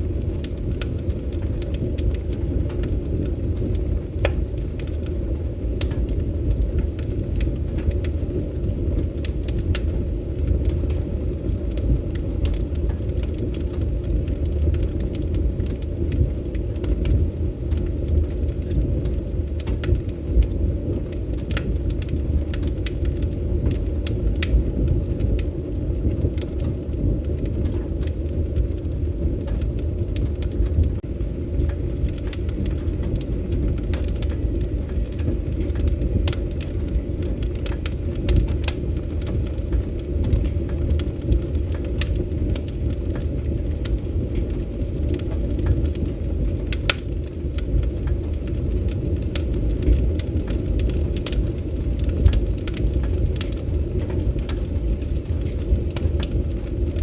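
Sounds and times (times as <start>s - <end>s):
fire crackles and pops: 0.0s - 57.0s
fire flames rumbling: 0.0s - 57.0s.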